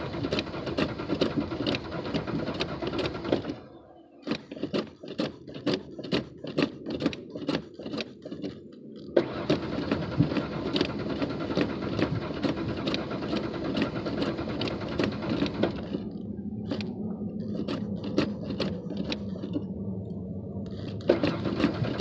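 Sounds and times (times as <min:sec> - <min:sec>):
car starter cranking: 0:00.0 - 0:19.7, 0:20.6 - 0:22.0.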